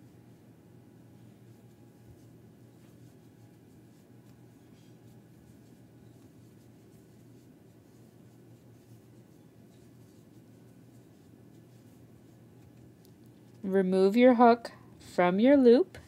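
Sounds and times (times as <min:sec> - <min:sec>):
steady low hum: 0:00.0 - 0:16.0
yarn rustling over crochet hook: 0:01.1 - 0:14.1.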